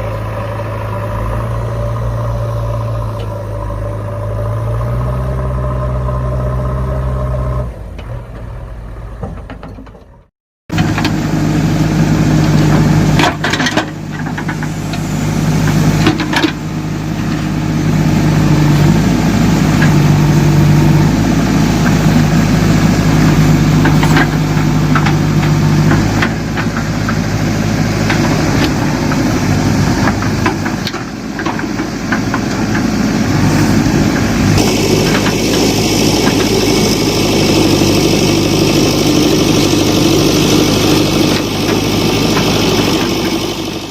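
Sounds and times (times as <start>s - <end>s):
backhoe engine running: 0.0s - 43.9s.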